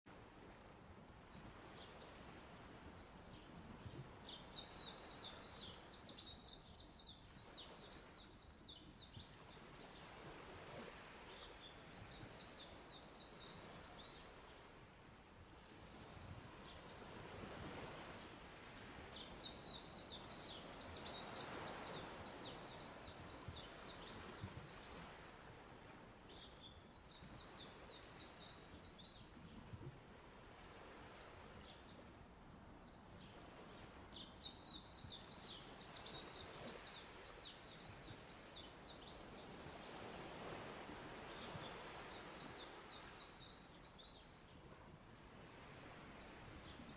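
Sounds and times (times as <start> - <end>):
sea waves: 0.1 - 46.9.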